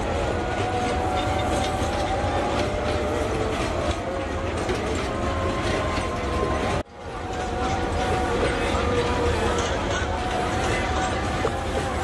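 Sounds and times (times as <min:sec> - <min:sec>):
train rumbling past: 0:00.0 - 0:12.0
wheels clacking over rail joints: 0:00.0 - 0:12.0.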